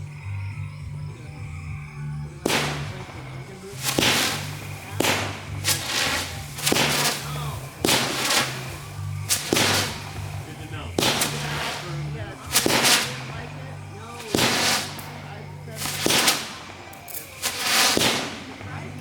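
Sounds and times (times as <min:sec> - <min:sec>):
fireworks banging: 0:00.0 - 0:19.0.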